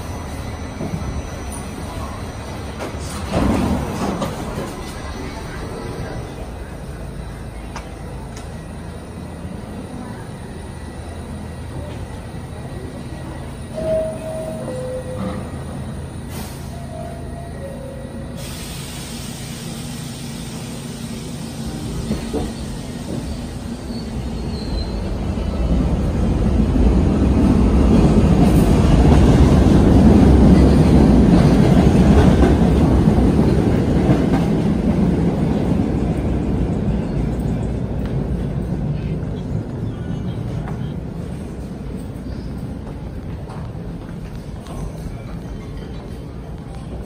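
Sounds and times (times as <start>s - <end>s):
subway train rumbling: 0.0s - 47.0s.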